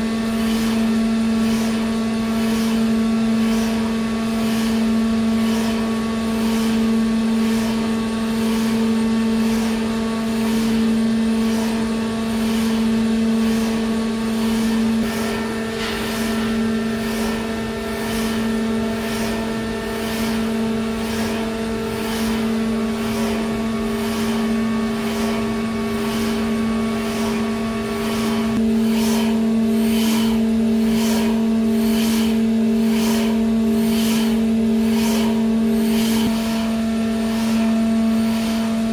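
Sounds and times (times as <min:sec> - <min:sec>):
low machine hum: 0:00.0 - 0:38.9.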